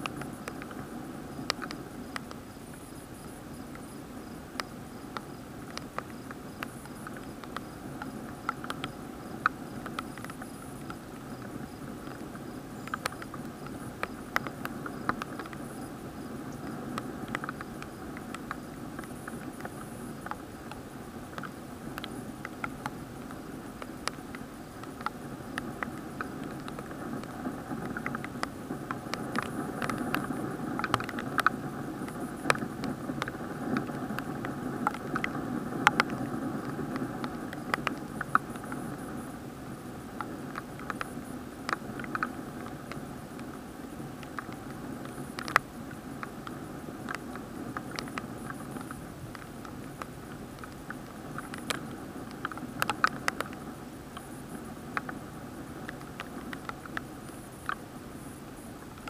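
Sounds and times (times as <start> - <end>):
muffled hiss: 0.0 - 59.0
raindrops ticking on plastic: 0.0 - 59.0.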